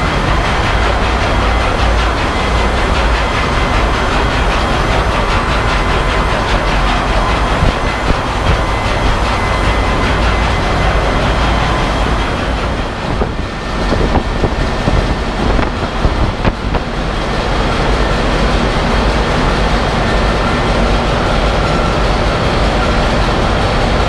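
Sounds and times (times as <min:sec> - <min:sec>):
ship diesel engine rumble: 0:00.0 - 0:24.0.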